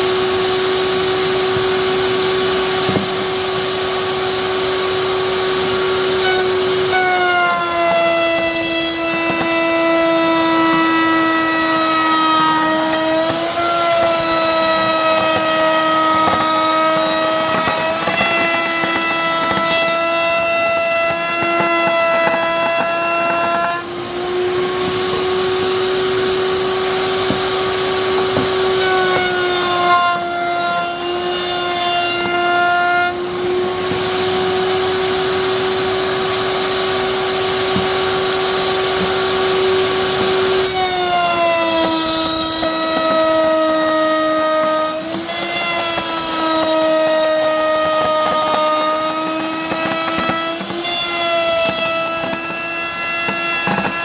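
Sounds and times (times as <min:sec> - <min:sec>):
power tool cutting wood: 0:00.0 - 0:54.0.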